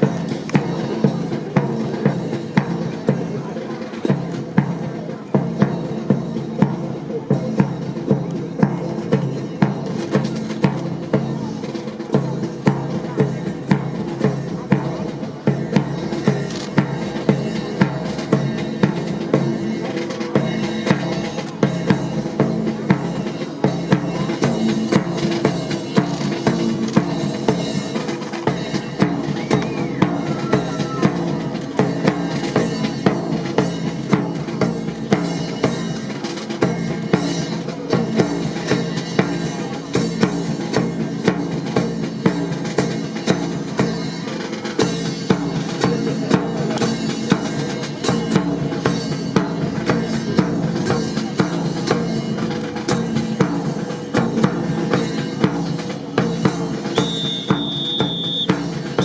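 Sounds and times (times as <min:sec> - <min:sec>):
music with loud drum beat: 0:00.0 - 0:59.0.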